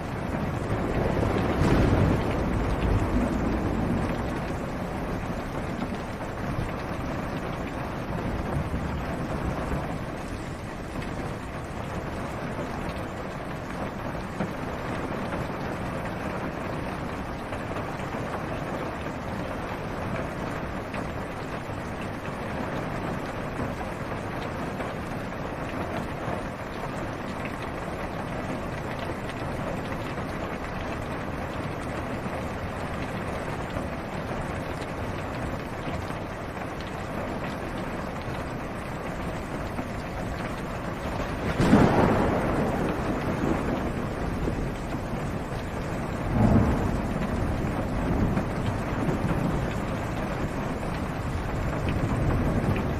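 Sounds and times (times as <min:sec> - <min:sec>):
rain on a car roof: 0:00.0 - 0:52.9.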